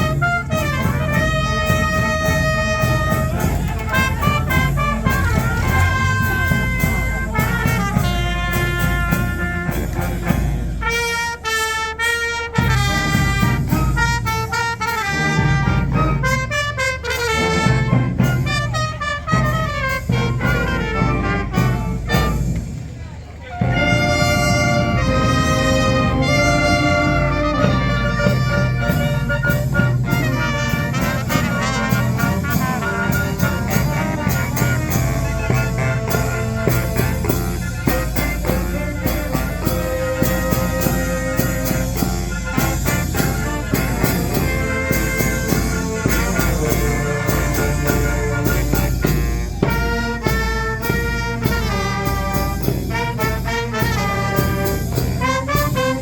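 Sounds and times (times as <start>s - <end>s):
driving drum beat: 0.0s - 23.0s, 23.6s - 56.0s
trumpets and trombones playing: 0.0s - 56.0s.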